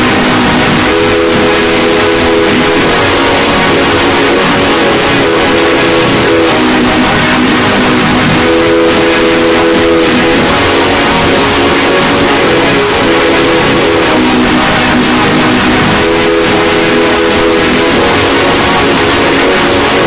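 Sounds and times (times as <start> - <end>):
held electronic chord: 0.0 - 20.0
loud distorted hiss: 0.0 - 20.0.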